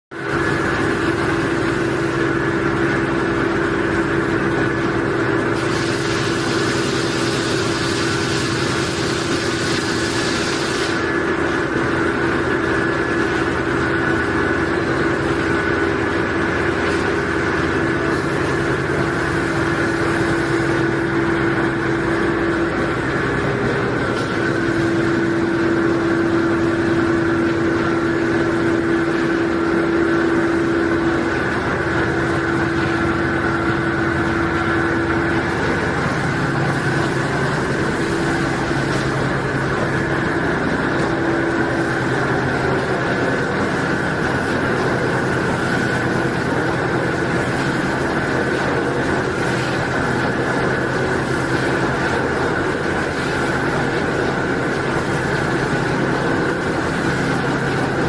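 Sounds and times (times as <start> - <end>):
machine mechanical hum: 0.1 - 58.0.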